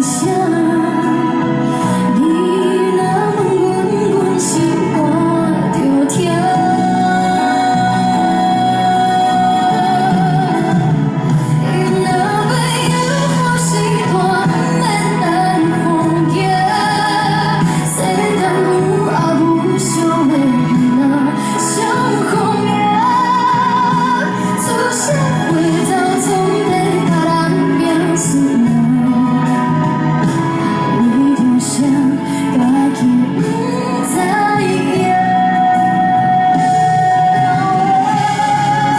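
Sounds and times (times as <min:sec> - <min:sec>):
band accompaniment: 0:00.0 - 0:38.9
woman singing pop ballad: 0:00.0 - 0:38.9.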